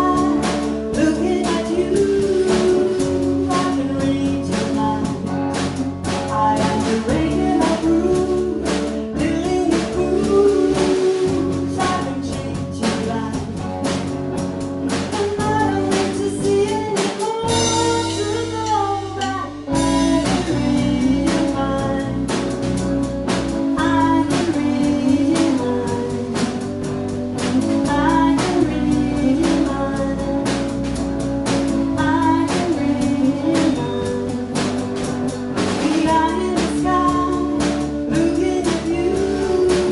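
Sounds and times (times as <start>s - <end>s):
person singing: 0.0s - 14.0s, 14.9s - 39.9s
bass: 0.0s - 39.9s
drum kit: 0.0s - 39.9s
guitar: 0.0s - 39.9s.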